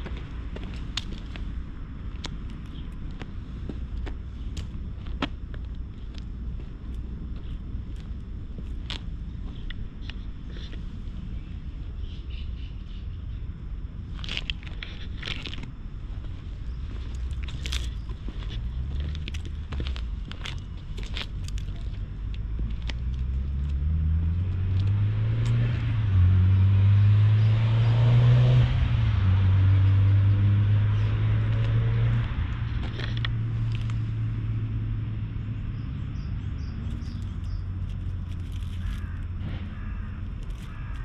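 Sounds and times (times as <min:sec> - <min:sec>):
passing vehicle engine rumble: 0:00.0 - 0:41.0.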